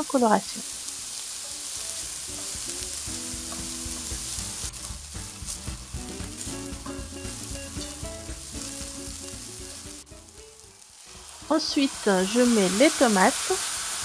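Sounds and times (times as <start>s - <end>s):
onions sizzling in oil: 0.0s - 14.0s
background music: 0.7s - 13.5s.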